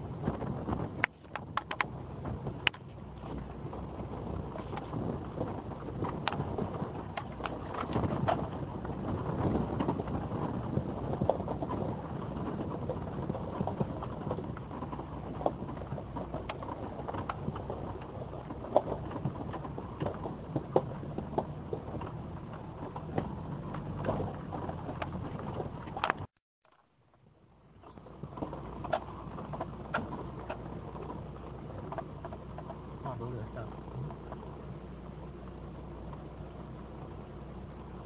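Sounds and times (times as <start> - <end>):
vehicle low rumble: 0.0 - 38.0
knocks and rattles: 0.1 - 27.2, 27.8 - 34.6.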